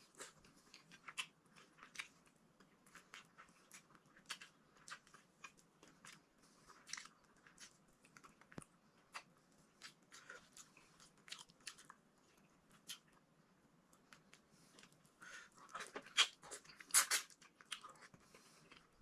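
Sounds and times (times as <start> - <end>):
person chewing food: 0.0 - 13.3, 13.9 - 19.0.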